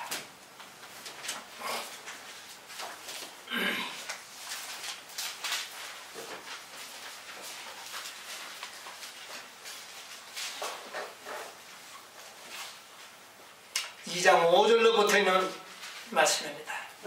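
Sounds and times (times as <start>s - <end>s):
paper pages rustling: 0.2s - 13.2s, 13.9s - 16.5s.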